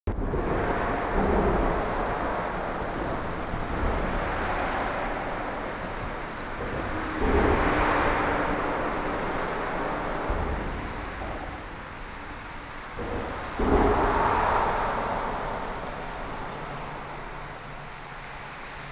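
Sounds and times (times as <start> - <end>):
wind buffeting microphone: 0.1 - 18.9.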